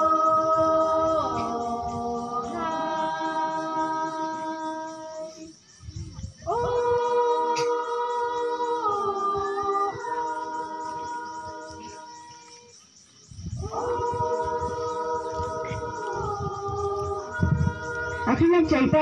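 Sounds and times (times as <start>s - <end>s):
women singing a capella: 0.0s - 19.0s.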